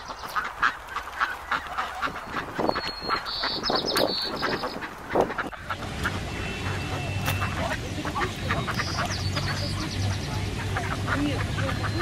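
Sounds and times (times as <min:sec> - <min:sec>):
geese honking: 0:00.0 - 0:12.0
goslings chirping trill: 0:00.0 - 0:12.0.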